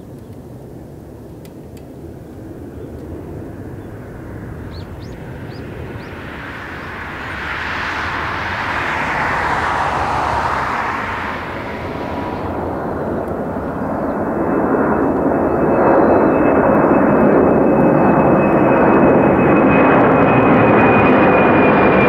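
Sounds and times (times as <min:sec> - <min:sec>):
jet engines roaring at takeoff: 0:00.1 - 0:22.0.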